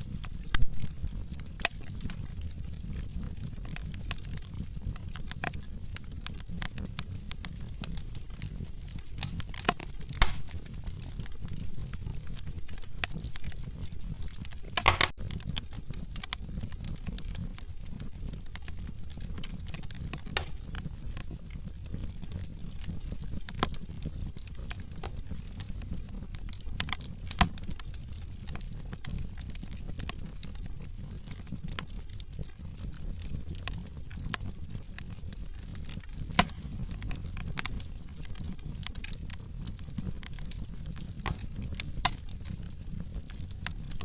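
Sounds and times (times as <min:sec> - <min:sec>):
fire crackling and popping: 0:00.0 - 0:44.0
flames rumbling: 0:00.0 - 0:44.0.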